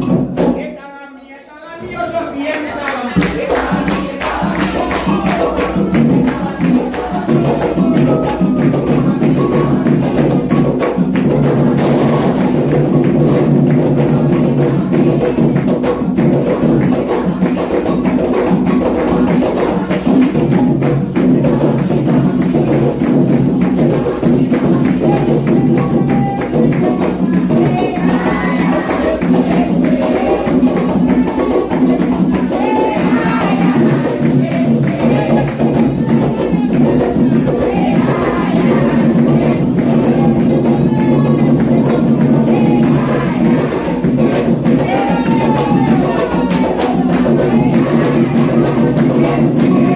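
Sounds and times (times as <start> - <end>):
hand drums: 0.0 - 0.7, 3.2 - 49.9
group chanting: 0.0 - 49.9.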